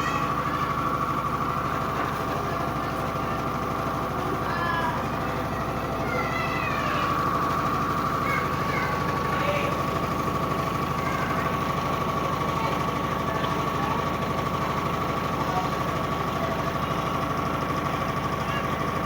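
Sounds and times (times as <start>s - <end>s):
washing machine spinning with whine: 0.0s - 19.0s.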